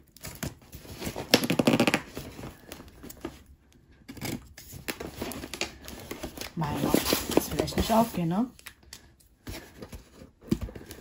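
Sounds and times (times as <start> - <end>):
packaging rustling and tearing: 0.0 - 11.0.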